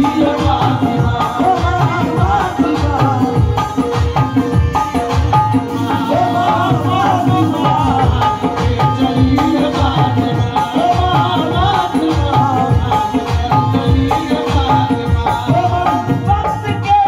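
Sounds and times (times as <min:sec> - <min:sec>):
hand drum rhythm: 0:00.0 - 0:17.0
harmonium chords: 0:00.0 - 0:17.0
man singing into a microphone: 0:00.0 - 0:17.0.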